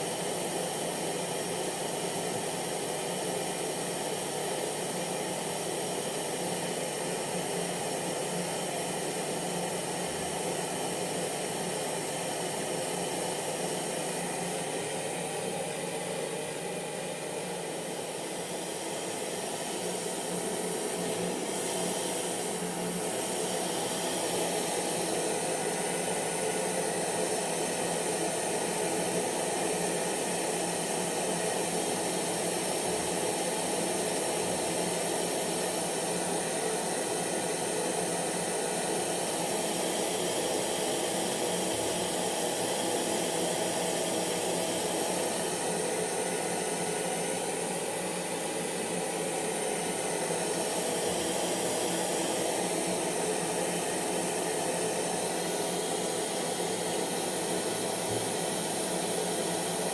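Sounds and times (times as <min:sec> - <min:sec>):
hair dryer running: 0:11.6 - 0:59.9.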